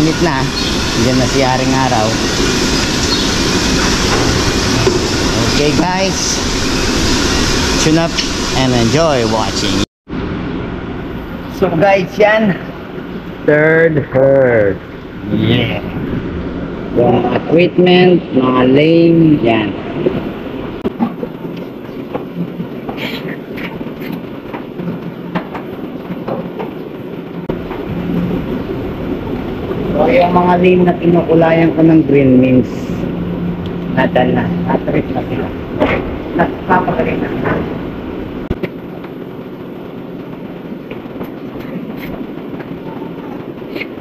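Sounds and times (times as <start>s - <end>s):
machinery rumbling: 0.0s - 44.0s.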